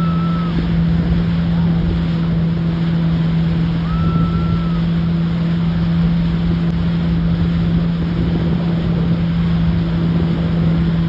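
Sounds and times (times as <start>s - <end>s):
motorboat engine hum: 0.0s - 11.0s
wind buffeting microphone: 0.0s - 11.0s.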